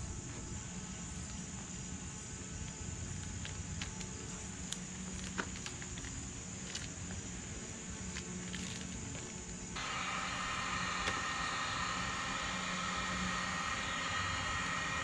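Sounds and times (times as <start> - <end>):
high insect buzz: 0.0 - 15.0
low steady hum: 0.0 - 15.0.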